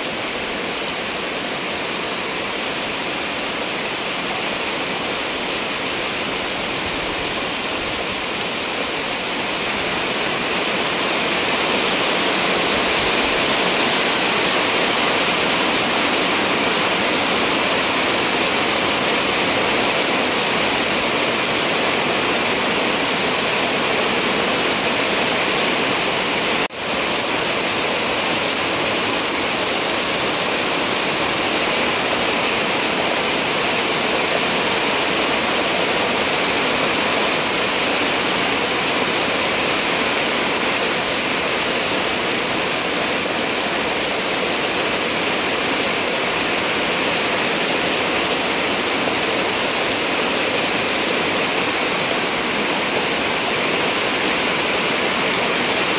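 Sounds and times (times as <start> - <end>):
heavy rain on concrete: 0.0 - 55.9.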